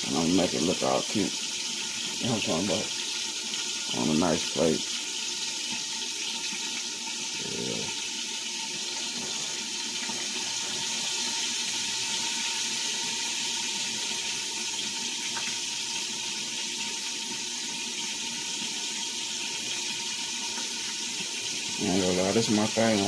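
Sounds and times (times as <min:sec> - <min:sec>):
chicken livers sizzling in a pan: 0:00.0 - 0:23.0.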